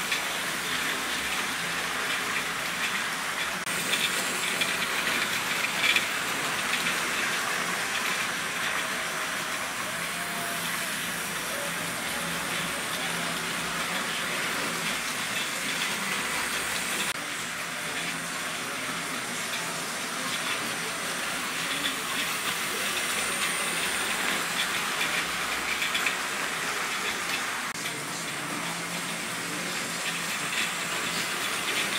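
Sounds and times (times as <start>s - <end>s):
model train motors whirring: 0.0s - 31.9s.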